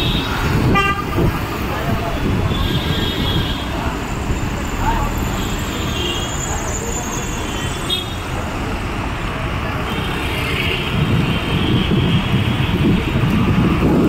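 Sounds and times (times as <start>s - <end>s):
cars and motorcycles passing: 0.0s - 14.0s.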